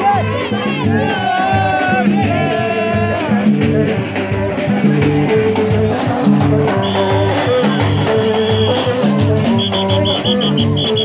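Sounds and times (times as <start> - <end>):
lively band music: 0.0 - 11.0.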